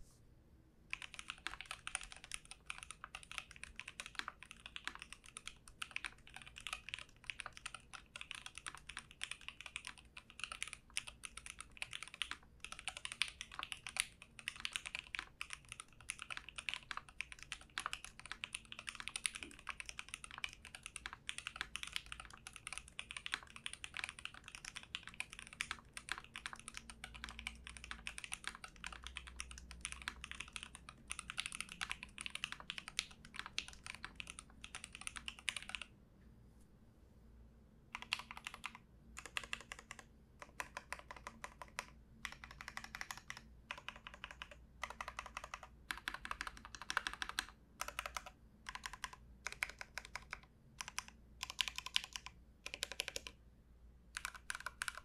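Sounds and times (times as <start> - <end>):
mechanical keyboard typing: 0.9 - 35.9, 37.9 - 53.4, 54.1 - 55.0.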